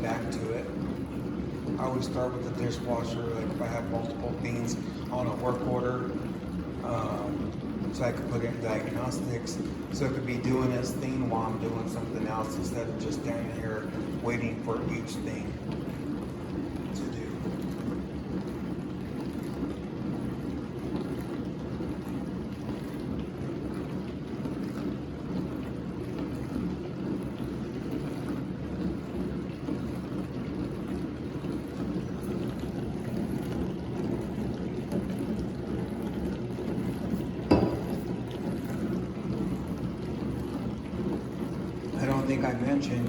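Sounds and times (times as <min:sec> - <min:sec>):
dishwasher pump humming: 0:00.0 - 0:43.0
water churning: 0:00.0 - 0:43.0.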